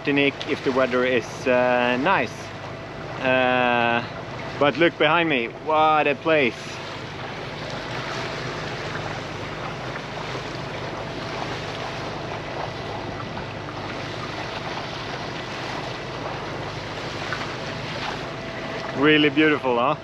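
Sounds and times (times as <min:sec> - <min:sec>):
boat engine running: 0:00.0 - 0:20.0
water rushing along hull: 0:00.0 - 0:20.0.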